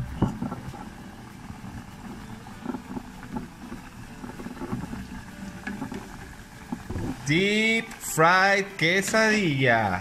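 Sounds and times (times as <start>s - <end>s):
hot oil bubbling and crackling: 0.0s - 10.0s.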